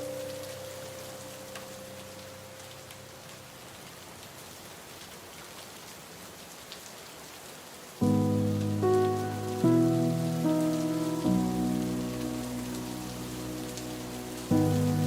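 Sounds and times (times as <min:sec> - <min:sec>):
rain drop ticks: 0:00.0 - 0:07.0, 0:08.0 - 0:15.0
steady rain: 0:00.0 - 0:15.0.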